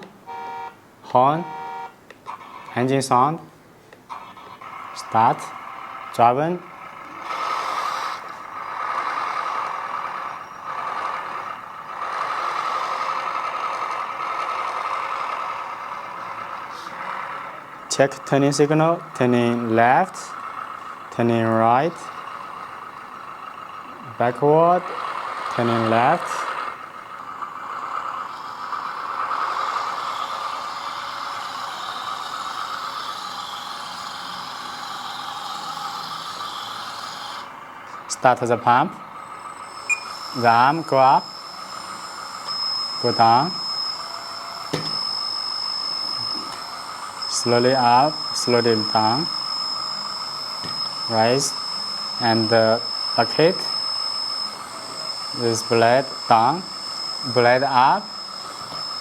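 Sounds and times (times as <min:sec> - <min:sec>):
simulated diesel engine from speaker: 0:00.0 - 0:59.0.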